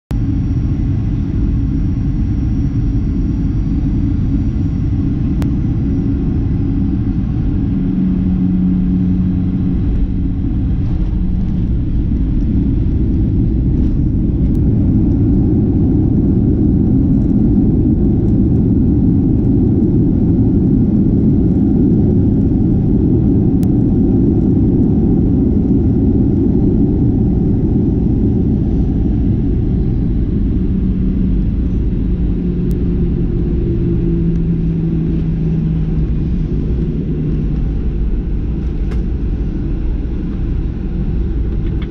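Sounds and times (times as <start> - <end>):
airplane cabin rumble: 0.1 - 41.9.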